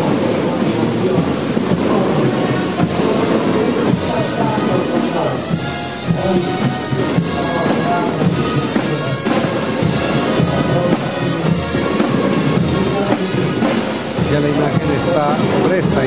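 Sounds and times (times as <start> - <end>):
drums and bass drum: 0.0 - 16.0
wind instruments: 0.0 - 16.0.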